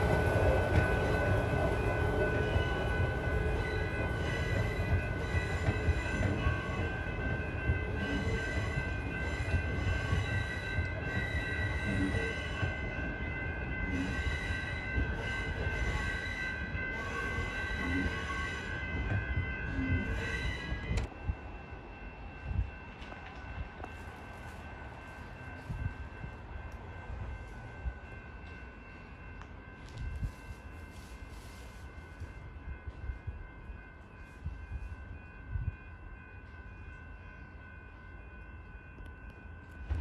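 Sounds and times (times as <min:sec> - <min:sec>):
train wheels rumbling on rail: 0:00.0 - 0:37.5.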